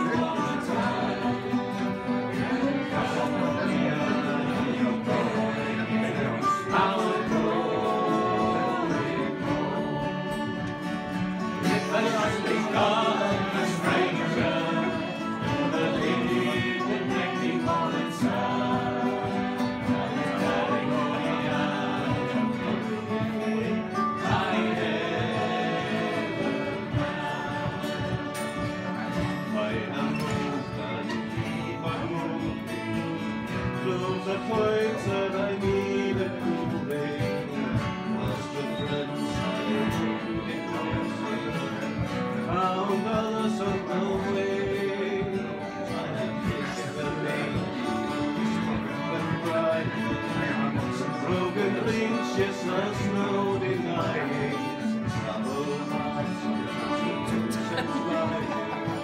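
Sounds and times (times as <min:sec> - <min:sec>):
fiddles: 0:00.0 - 0:59.0
guitar: 0:00.0 - 0:59.0
mandolin: 0:00.0 - 0:59.0.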